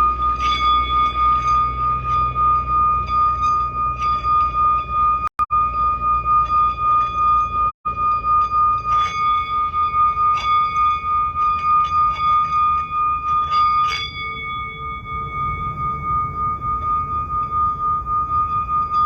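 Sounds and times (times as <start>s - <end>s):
singing bowl strikes: 0.0s - 19.0s
singing bowls ringing: 0.0s - 19.0s.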